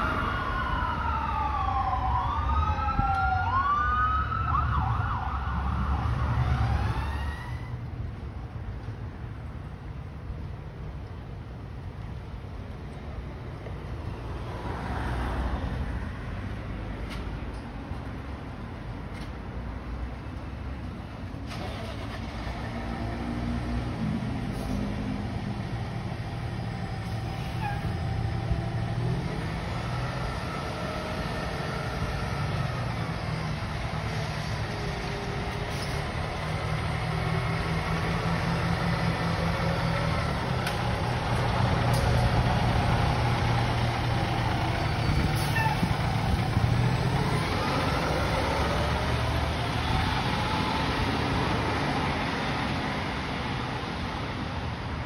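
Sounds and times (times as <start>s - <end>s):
fire engine diesel engine: 0.0s - 55.0s.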